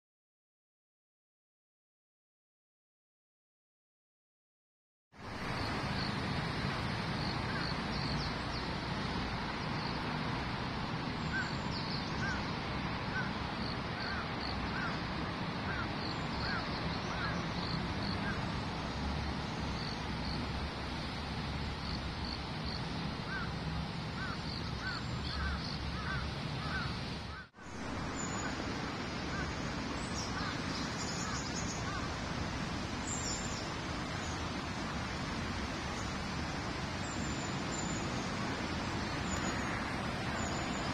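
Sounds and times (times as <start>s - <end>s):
ambient background hiss: 5.3s - 40.9s.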